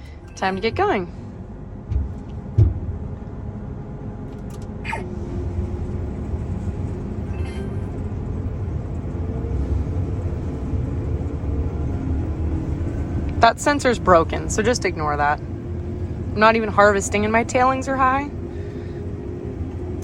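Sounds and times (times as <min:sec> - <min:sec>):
combine harvester engine rumble: 0:00.0 - 0:20.0.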